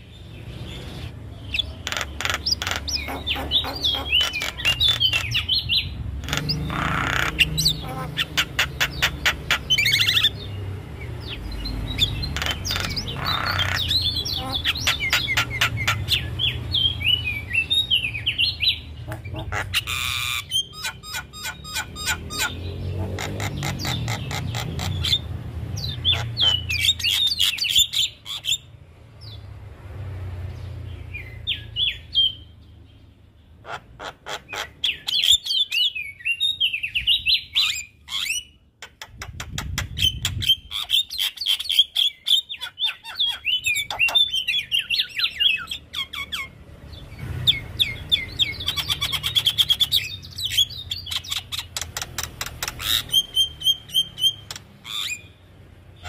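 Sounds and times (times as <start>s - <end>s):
bird singing: 0.0s - 29.5s, 30.5s - 56.0s.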